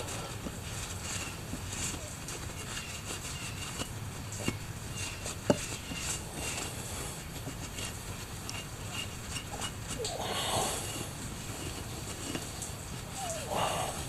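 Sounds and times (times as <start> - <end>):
rag rubbing on sprocket: 0.0 - 14.0.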